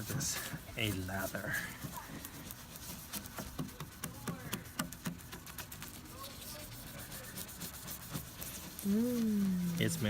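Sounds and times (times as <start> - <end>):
toothbrush scrubbing plastic: 0.0 - 10.0.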